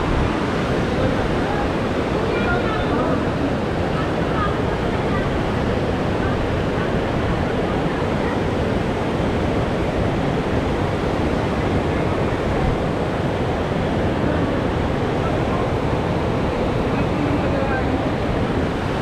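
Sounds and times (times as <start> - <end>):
roar of river rapids: 0.0 - 19.0.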